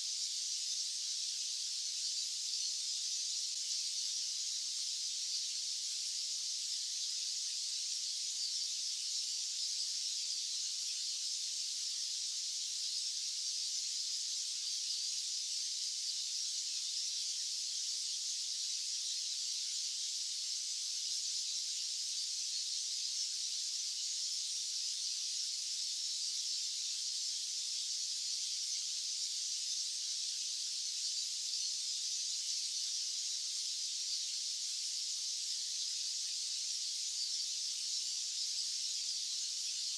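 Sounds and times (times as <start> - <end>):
high-pitched white noise hiss: 0.0 - 39.9.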